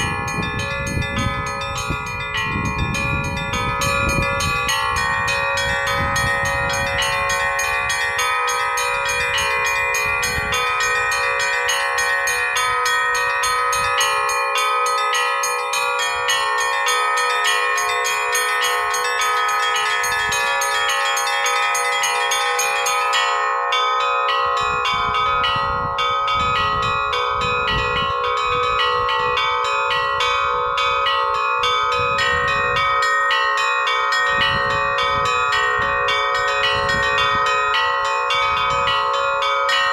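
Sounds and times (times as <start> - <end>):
large bells ringing: 0.0 - 39.9
small bells struck rapidly: 0.0 - 39.9.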